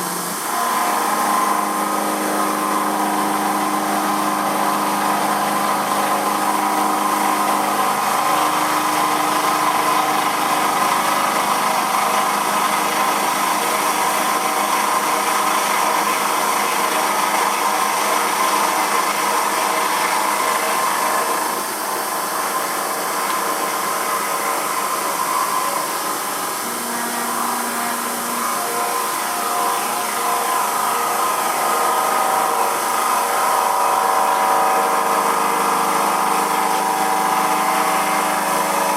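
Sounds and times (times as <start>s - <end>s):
milling machine whine: 0.0s - 38.9s.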